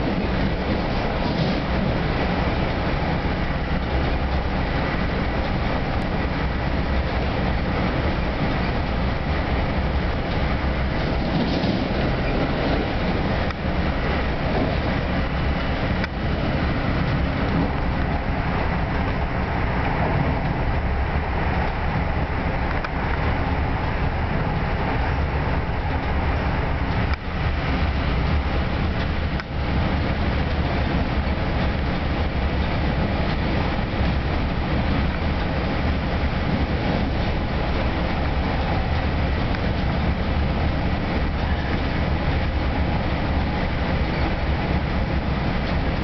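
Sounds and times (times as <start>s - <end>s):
train coach running noise: 0.0s - 46.0s.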